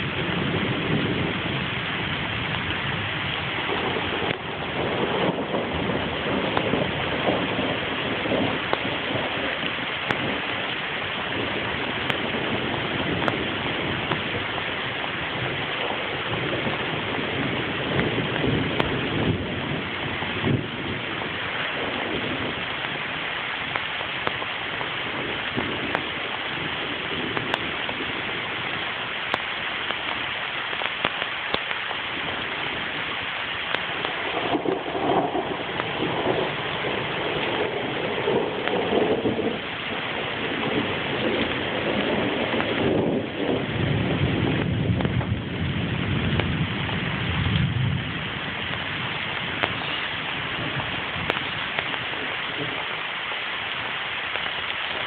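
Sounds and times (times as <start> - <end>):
heavy steady rain: 0.0 - 55.0.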